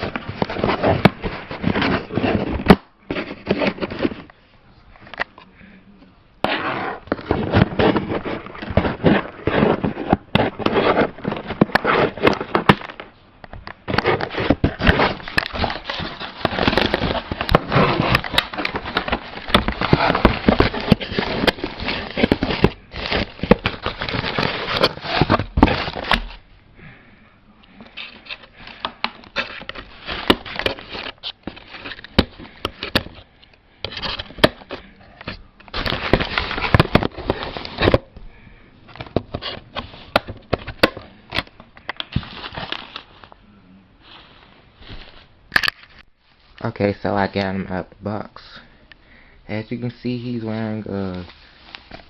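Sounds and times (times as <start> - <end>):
toy packaging crinkling and scraping: 0.0 - 4.3, 6.4 - 26.4, 27.8 - 38.1, 38.8 - 43.4, 44.0 - 46.6, 50.0 - 52.0.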